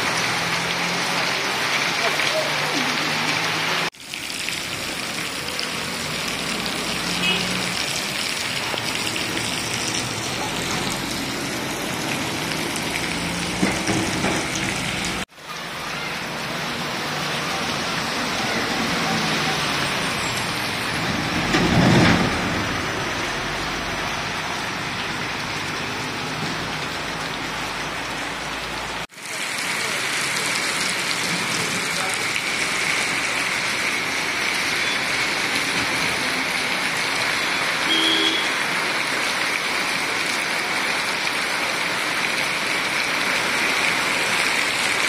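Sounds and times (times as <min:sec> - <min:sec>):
heavy rain on road: 0:00.0 - 0:45.0
vehicle passing on wet road: 0:00.0 - 0:45.0.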